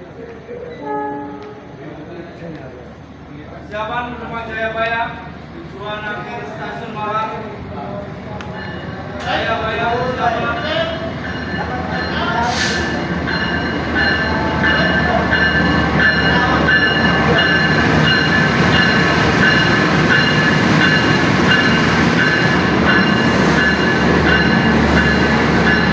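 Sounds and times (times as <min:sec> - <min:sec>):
train rumbling: 0:00.0 - 0:25.9.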